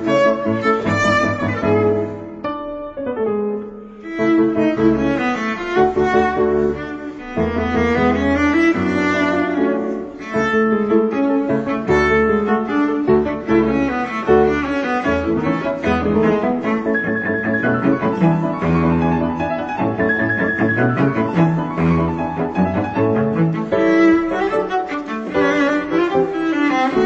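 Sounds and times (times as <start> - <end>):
instrumental background music: 0.0 - 27.0.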